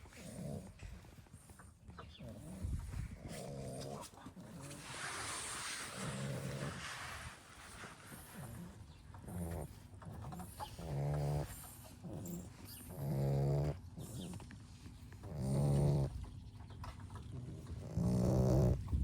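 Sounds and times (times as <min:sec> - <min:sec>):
puppies snoring: 0:00.0 - 0:19.0.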